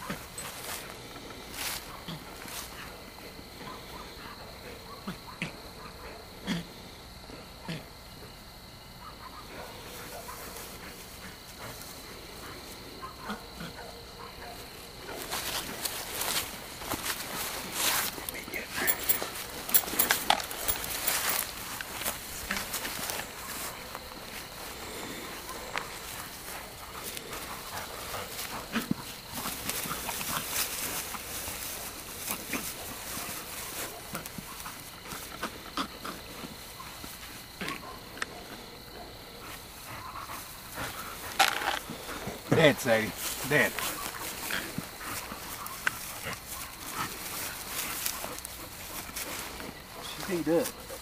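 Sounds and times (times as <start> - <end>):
rustling in tall grass: 0.0 - 3.3, 9.7 - 13.6, 14.4 - 37.5, 39.4 - 51.0.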